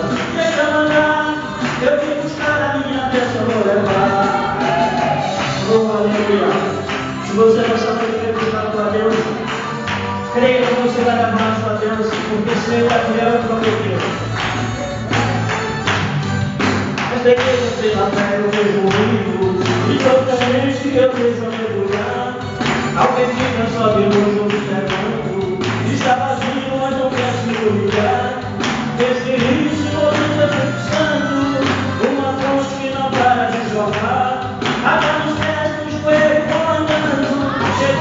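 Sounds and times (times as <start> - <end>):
man singing gospel song: 0.0 - 14.4, 17.0 - 38.0
amplified instrumental accompaniment: 0.0 - 38.0.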